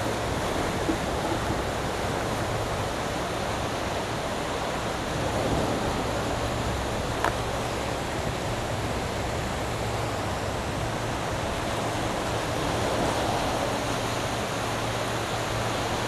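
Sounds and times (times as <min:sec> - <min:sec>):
sea waves rushing: 0:00.0 - 0:16.0.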